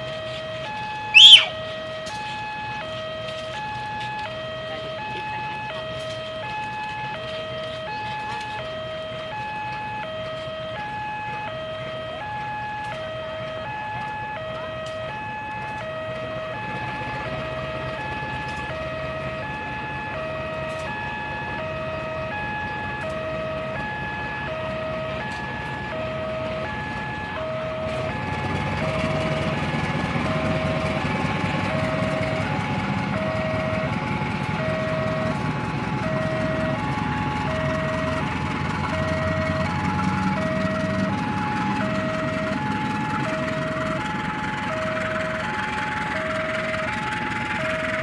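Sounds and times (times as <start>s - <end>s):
diesel locomotive engine rumble: 0.0s - 48.0s
two-tone crossing alarm: 0.0s - 48.0s.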